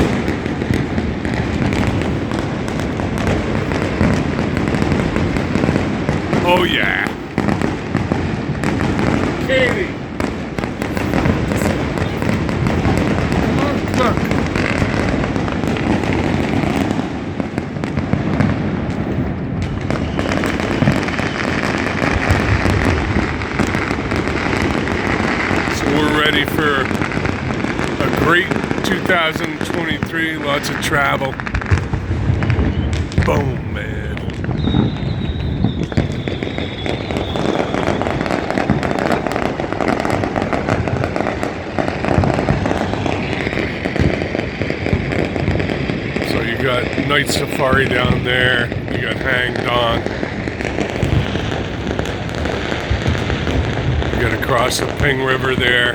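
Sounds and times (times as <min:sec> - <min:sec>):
distant fireworks booming and cracking: 0:00.0 - 0:55.9.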